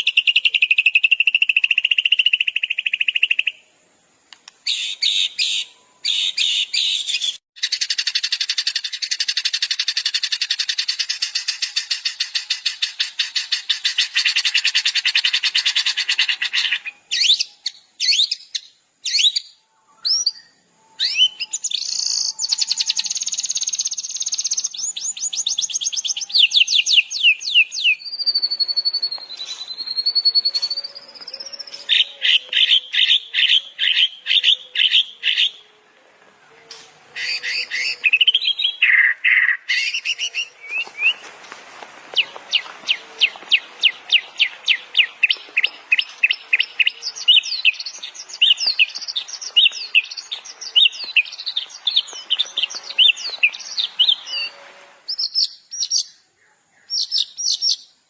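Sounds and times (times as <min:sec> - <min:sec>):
long wavering bird whistle: 0:00.0 - 0:03.6, 0:04.6 - 0:35.7, 0:37.1 - 0:41.2, 0:42.2 - 0:56.1
sharp bird chirps: 0:00.0 - 0:03.7, 0:04.6 - 0:35.7, 0:36.7 - 0:41.2, 0:42.2 - 0:56.2, 0:56.8 - 0:58.0
songbird trills: 0:00.0 - 0:03.7, 0:04.4 - 0:41.3, 0:42.1 - 0:58.0.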